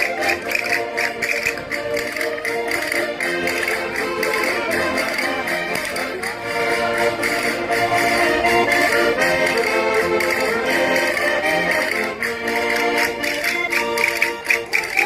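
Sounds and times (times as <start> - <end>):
concertinas playing folk tune: 0.0 - 15.0
sharp rhythmic taps: 0.0 - 15.0.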